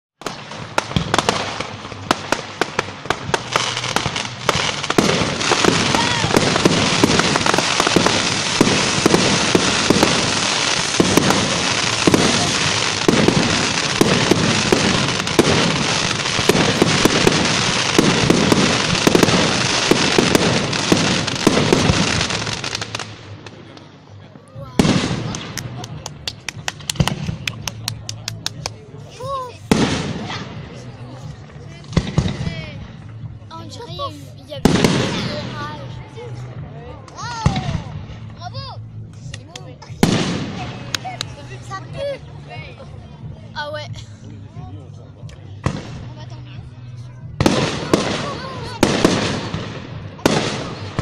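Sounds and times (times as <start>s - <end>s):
fireworks crackling and banging: 0.2s - 43.5s, 45.2s - 51.0s.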